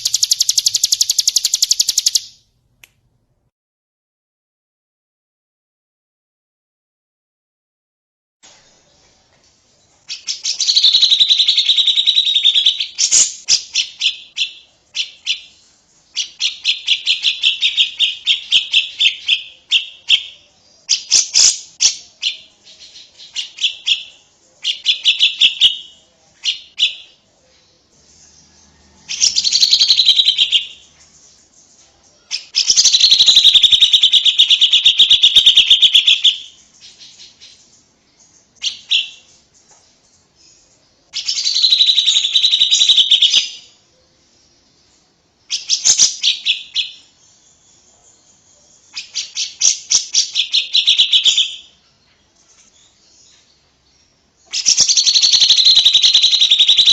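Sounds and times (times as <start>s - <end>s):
songbird singing trilled phrases: 0.0s - 2.4s, 10.0s - 27.3s, 28.0s - 56.9s.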